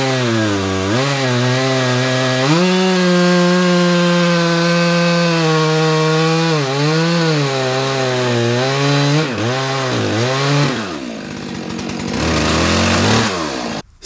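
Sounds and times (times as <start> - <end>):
chainsaw cutting log: 0.0 - 13.8.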